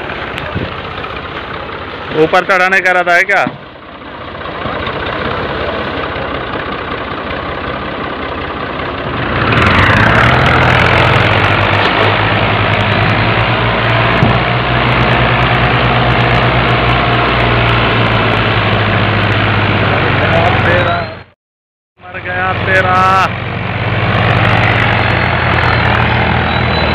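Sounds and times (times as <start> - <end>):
tractor diesel engine running: 0.0 - 21.3, 22.0 - 26.9.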